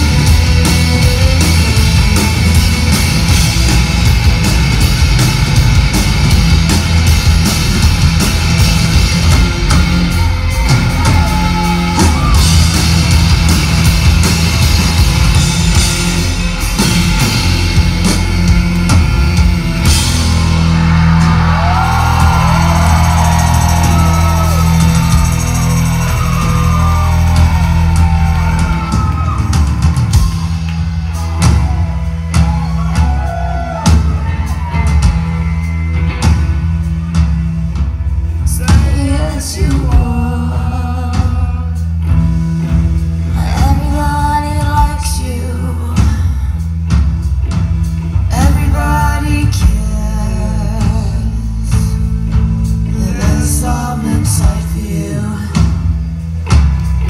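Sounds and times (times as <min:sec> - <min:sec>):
drum kit: 0:00.0 - 0:57.0
electric guitars: 0:00.0 - 0:57.0.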